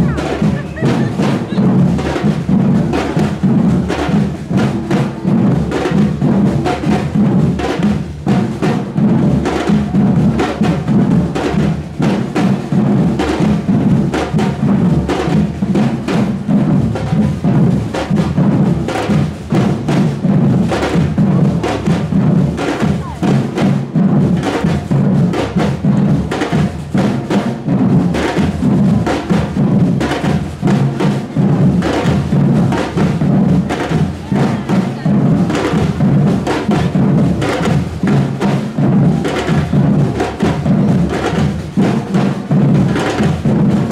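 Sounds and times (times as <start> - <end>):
street drum band playing: 0.0 - 43.9.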